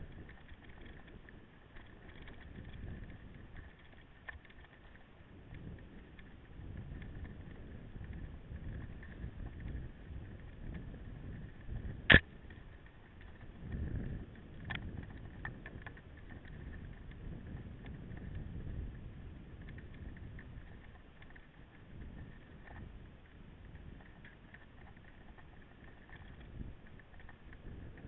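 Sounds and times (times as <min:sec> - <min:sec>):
bike rattling: 0:00.0 - 0:28.0
bike tyres rumbling on dirt: 0:00.0 - 0:28.0.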